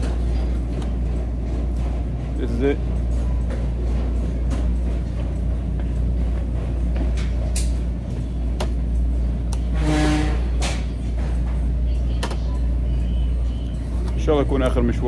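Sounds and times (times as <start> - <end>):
supermarket ambience hum: 0.0 - 15.0.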